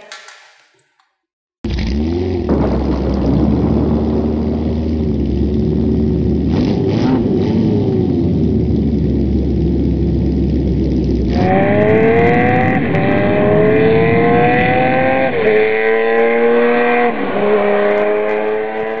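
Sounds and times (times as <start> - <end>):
motorcycle engine accelerating: 1.6 - 19.0.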